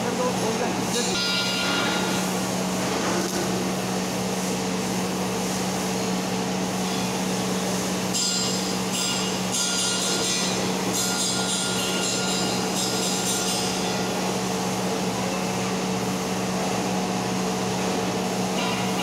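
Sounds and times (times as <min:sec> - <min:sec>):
welding arc buzzing hiss: 0:00.0 - 0:19.0.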